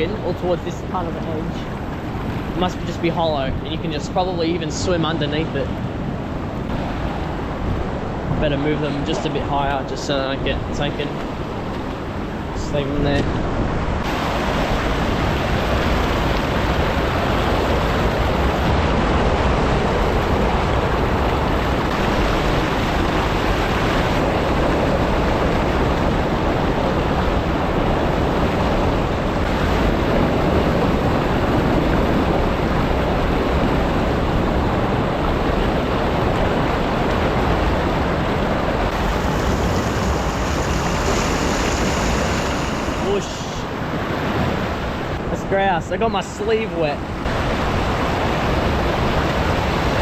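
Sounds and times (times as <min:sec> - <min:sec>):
wind buffeting microphone: 0:00.0 - 0:45.4
ocean surf over rocks: 0:00.0 - 0:50.0.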